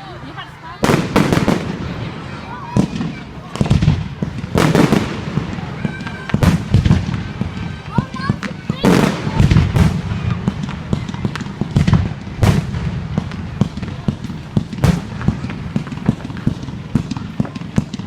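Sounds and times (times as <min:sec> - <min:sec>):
fireworks bangs and crackles: 0:00.0 - 0:18.0
loud firework booms: 0:00.8 - 0:18.0.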